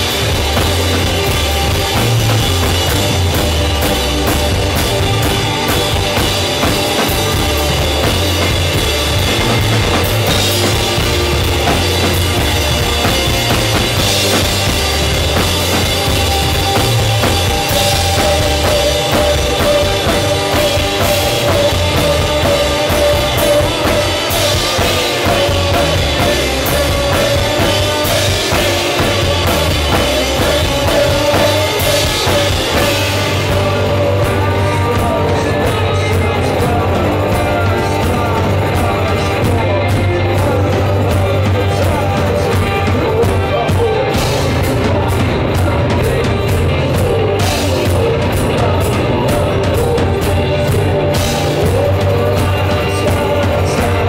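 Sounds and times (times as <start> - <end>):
electric bass: 0.0 - 54.0
steady bass drum beat: 0.0 - 54.0.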